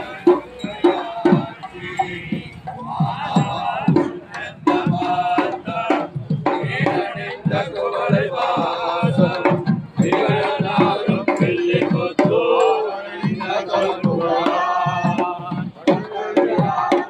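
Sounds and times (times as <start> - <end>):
drums beating: 0.0 - 17.0.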